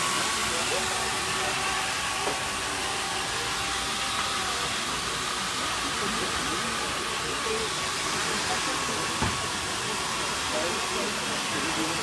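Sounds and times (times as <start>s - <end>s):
crowd chatter: 0.0s - 12.0s
power tool whirring: 0.0s - 12.0s.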